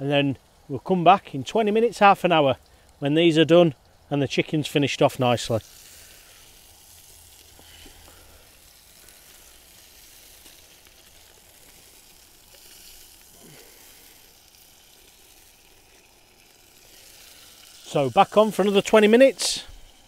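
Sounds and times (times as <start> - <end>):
faint sizzle from hot pan: 0.0 - 20.0.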